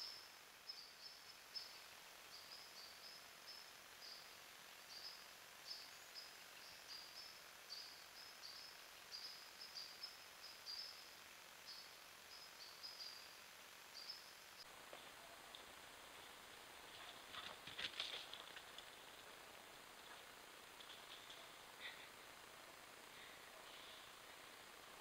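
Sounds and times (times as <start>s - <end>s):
microphone hiss: 0.0s - 25.0s.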